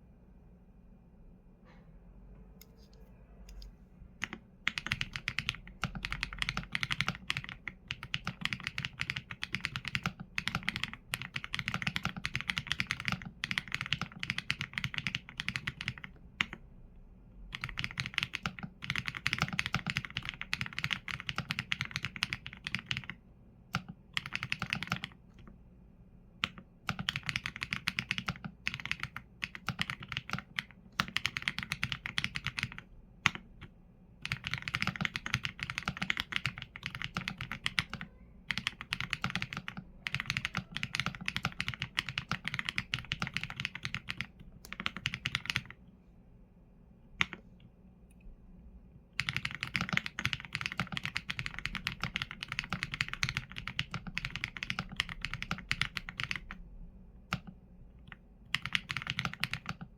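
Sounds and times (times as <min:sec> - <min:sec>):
typing on mechanical keyboard: 0:04.2 - 0:16.6, 0:17.5 - 0:25.5, 0:26.4 - 0:45.8, 0:47.2 - 0:47.4, 0:49.2 - 0:56.6, 0:57.3 - 0:59.9.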